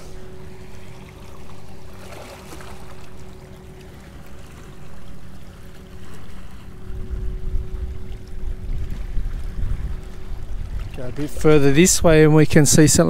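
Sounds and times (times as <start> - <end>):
water lapping against rocks: 0.0 - 11.8
boat engine humming: 0.0 - 13.0.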